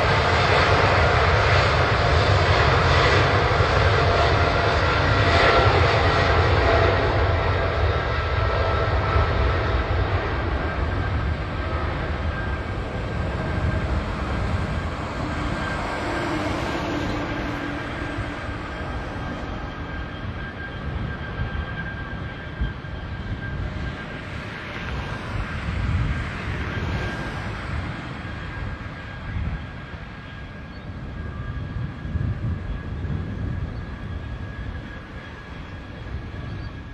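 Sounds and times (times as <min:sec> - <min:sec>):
jet engines rumbling with fan whine: 0:00.0 - 0:36.9.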